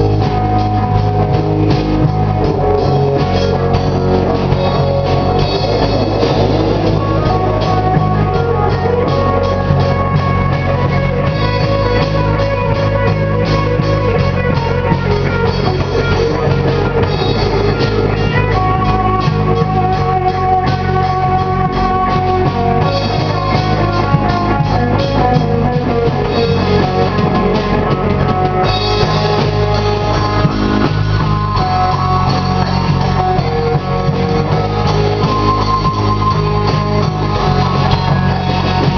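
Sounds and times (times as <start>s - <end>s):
drum kit with crashing cymbals: 0.0s - 38.9s
electric guitar: 0.0s - 38.9s.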